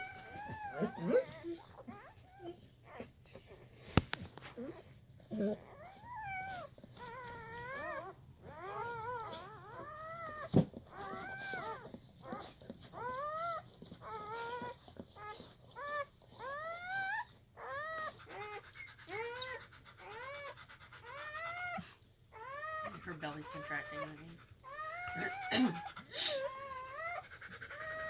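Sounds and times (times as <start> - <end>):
puppies crying: 0.0 - 28.0.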